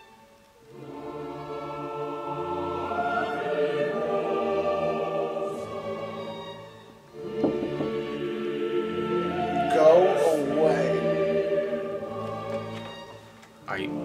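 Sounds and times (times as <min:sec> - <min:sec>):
choir singing with orchestra: 0:00.0 - 0:14.0.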